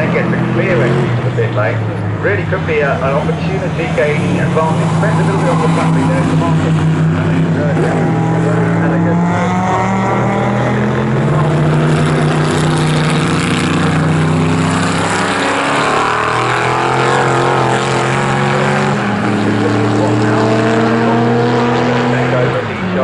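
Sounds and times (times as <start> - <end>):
race car engine accelerating: 0.0 - 23.0.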